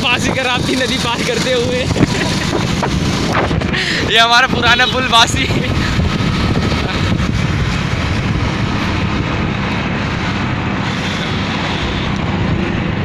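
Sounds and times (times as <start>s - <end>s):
motorcycle engine at speed: 0.0s - 4.0s, 4.9s - 13.0s
wind rush on microphone: 0.0s - 13.0s.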